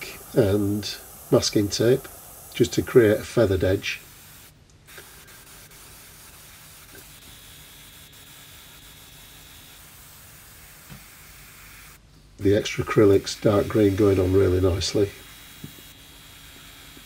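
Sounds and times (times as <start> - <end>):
airbrush spraying hiss: 0.0 - 17.0.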